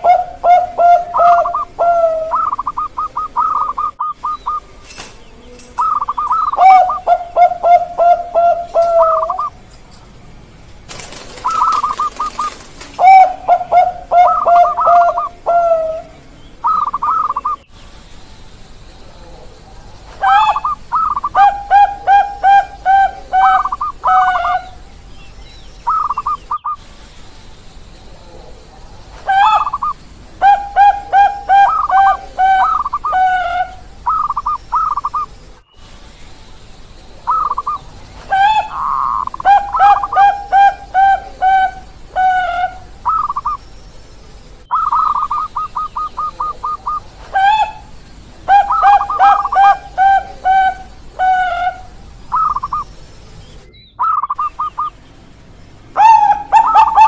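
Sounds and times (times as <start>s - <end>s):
doves cooing: 0.0s - 9.7s, 10.9s - 17.7s, 19.0s - 25.1s, 25.8s - 26.9s, 27.7s - 35.6s, 37.1s - 57.0s.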